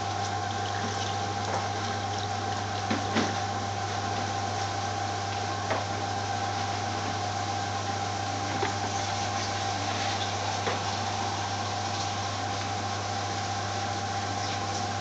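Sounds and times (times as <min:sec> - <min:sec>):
kitchen equipment hum and hiss: 0:00.0 - 0:15.0.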